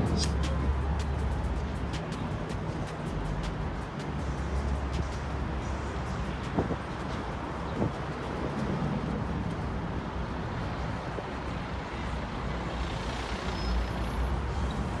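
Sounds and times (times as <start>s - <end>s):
bus engine and road rumble: 0.0s - 15.0s
passing traffic: 0.0s - 15.0s.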